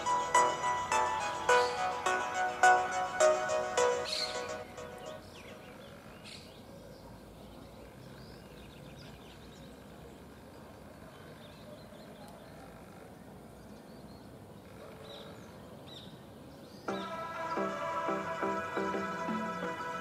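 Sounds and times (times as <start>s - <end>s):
small birds chirping: 0.0s - 18.2s
low background noise: 0.0s - 20.0s.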